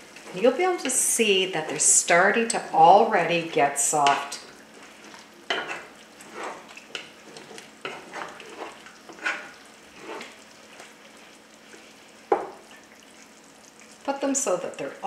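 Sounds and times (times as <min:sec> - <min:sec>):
wooden spoon scraping pan: 0:00.1 - 0:12.6.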